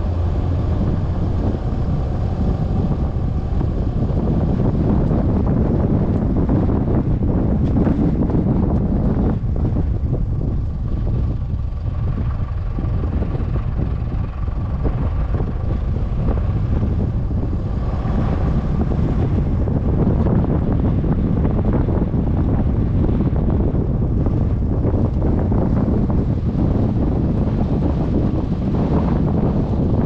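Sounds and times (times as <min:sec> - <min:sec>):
vehicle driving on sandy track: 0:00.0 - 0:30.0
wind buffeting microphone: 0:00.0 - 0:30.0.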